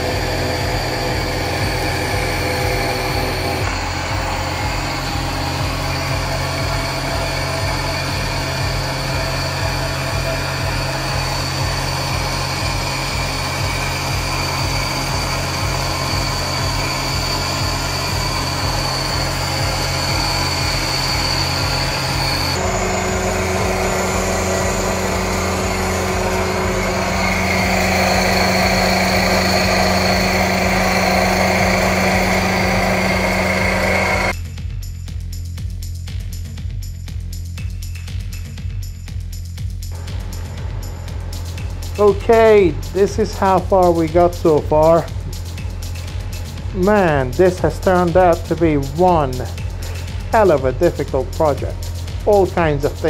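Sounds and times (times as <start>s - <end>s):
milling machine drone: 0.0s - 34.4s, 39.9s - 53.0s.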